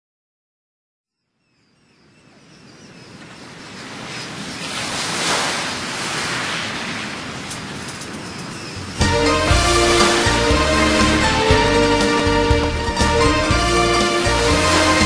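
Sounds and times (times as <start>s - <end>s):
sea waves breaking: 2.4s - 15.0s.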